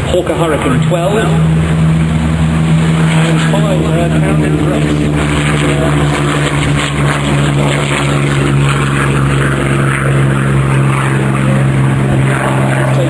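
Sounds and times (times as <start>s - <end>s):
propeller engines droning: 0.0s - 13.0s.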